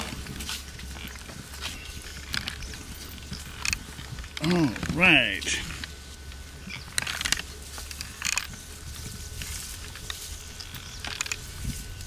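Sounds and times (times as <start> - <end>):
undergrowth rustling and crackling: 0.0 - 12.0.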